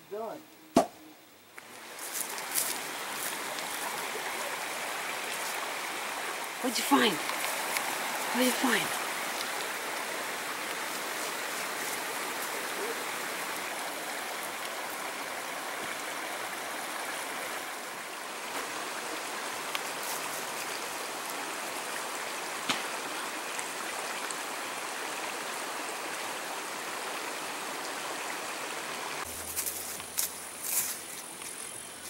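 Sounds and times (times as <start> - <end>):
creek running: 0.0 - 32.0.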